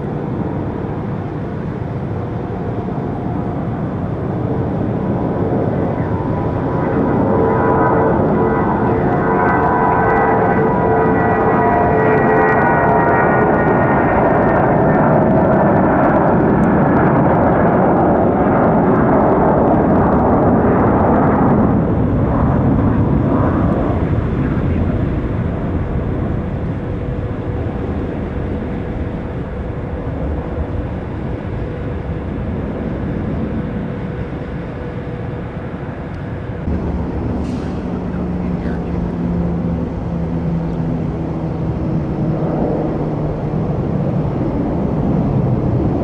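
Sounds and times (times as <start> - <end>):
jet airliner engine rumble: 0.0 - 46.0.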